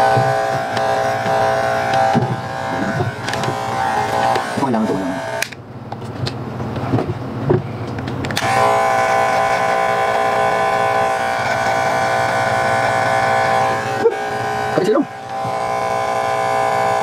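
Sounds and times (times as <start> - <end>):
electric hair clipper buzzing: 0.0 - 5.6, 8.4 - 17.0.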